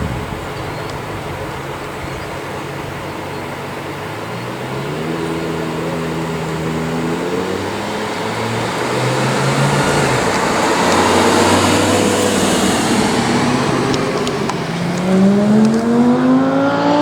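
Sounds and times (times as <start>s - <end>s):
sports car engine running: 0.0s - 17.0s.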